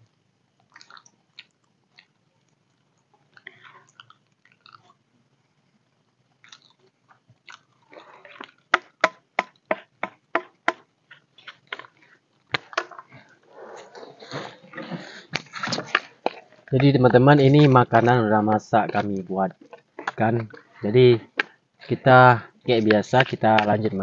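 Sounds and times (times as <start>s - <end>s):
chewing: 0.6s - 5.0s, 6.3s - 9.1s, 11.1s - 24.0s.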